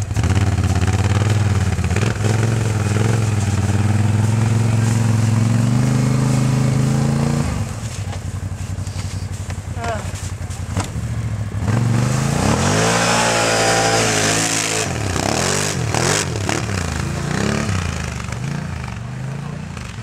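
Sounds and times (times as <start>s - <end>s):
atv engine revving: 0.0s - 20.0s.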